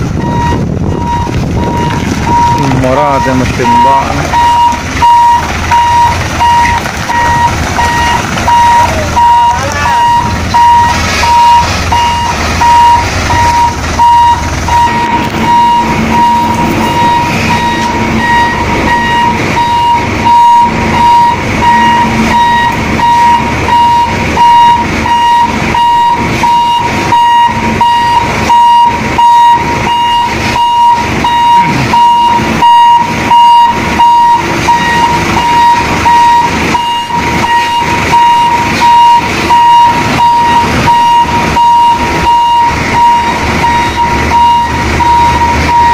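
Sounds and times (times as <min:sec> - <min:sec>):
diesel engine running: 0:00.0 - 0:45.9
reverse warning beeper: 0:00.2 - 0:45.9.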